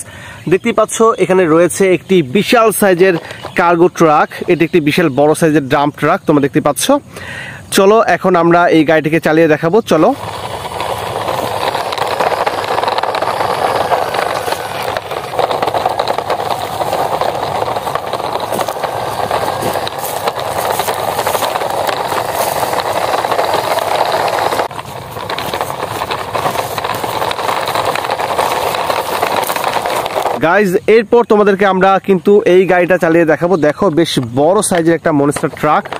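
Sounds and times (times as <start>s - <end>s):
plastic toy truck rattling on ground: 0.0s - 7.0s, 7.9s - 35.9s.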